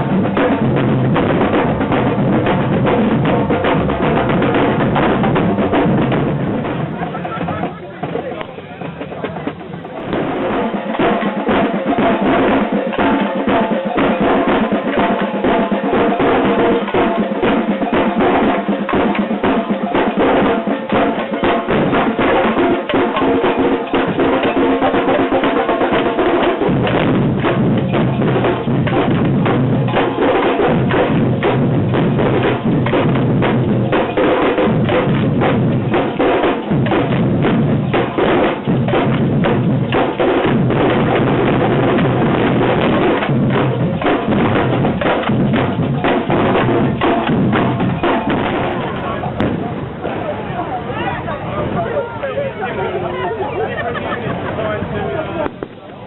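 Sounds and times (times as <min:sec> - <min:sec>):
samba band drumming: 0:00.0 - 0:49.8
deep bass drums: 0:00.0 - 0:50.0.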